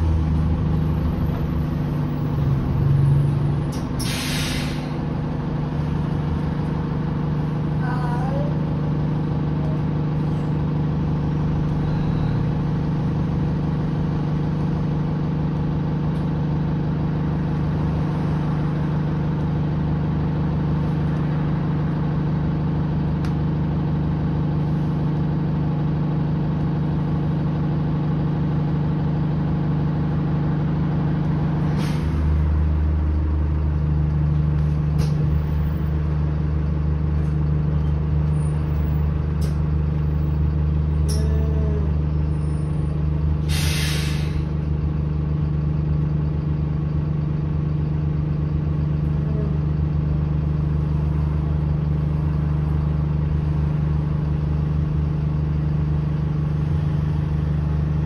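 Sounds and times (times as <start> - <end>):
bus engine humming: 0.0 - 58.0.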